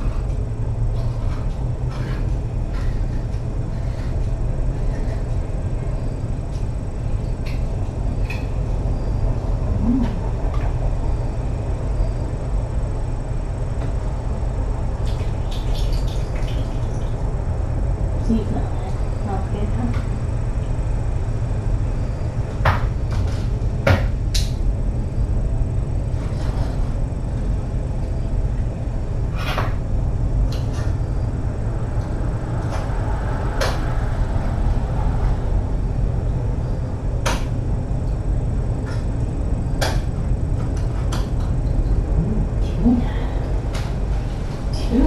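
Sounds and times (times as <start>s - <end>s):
low room hum: 0.0s - 45.0s.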